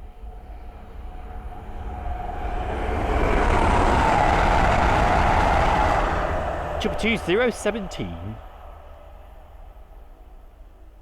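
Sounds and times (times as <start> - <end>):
diesel train passing: 0.0 - 11.0.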